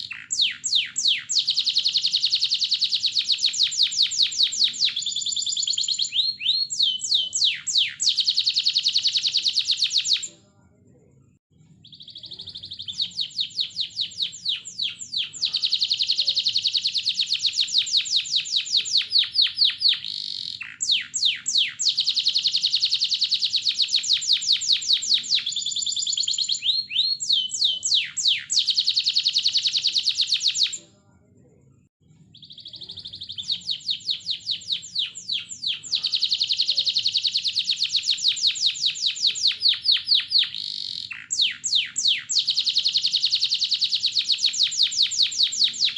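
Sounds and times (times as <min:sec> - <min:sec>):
canary singing trills: 0:00.0 - 0:10.4, 0:11.6 - 0:30.9, 0:32.1 - 0:45.9.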